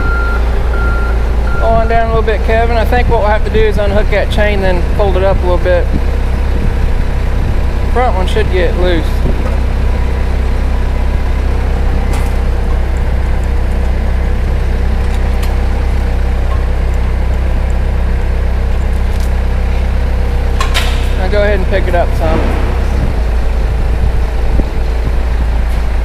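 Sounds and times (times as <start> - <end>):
forklift engine idling: 0.0 - 26.0.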